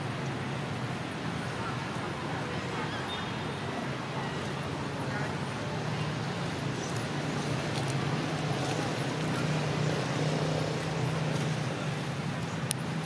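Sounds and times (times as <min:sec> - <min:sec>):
traffic hum and rumble: 0:00.0 - 0:13.0.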